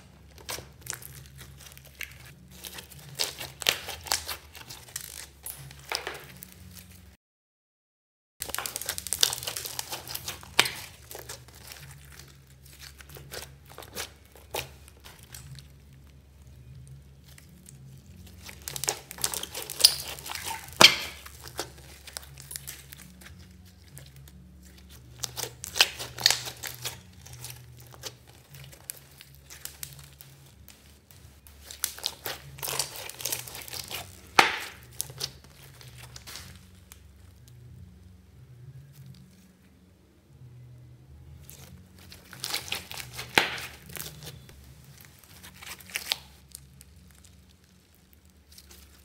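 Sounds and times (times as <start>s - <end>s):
slime squished by hand: 0.0s - 6.5s, 8.4s - 37.0s, 41.4s - 49.0s.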